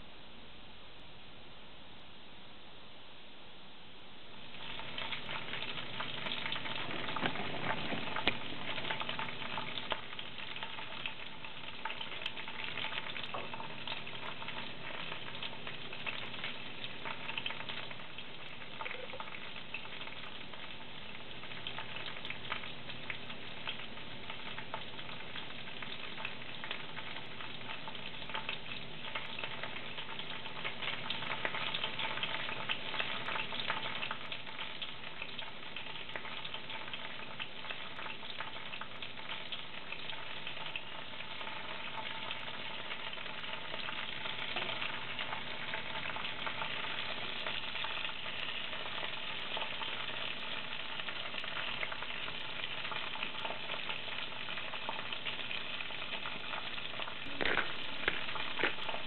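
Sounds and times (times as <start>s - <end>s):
meat sizzling in hot oil: 4.3s - 59.0s.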